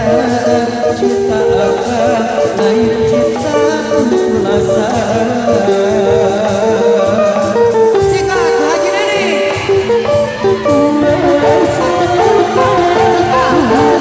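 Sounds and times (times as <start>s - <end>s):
sliding lead melody: 0.0s - 14.0s
steady drumming: 0.0s - 14.0s.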